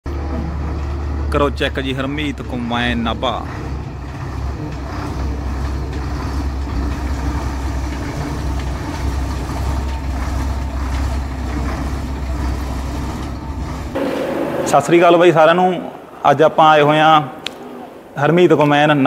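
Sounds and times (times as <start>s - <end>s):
combine harvester engine droning: 0.1s - 16.1s.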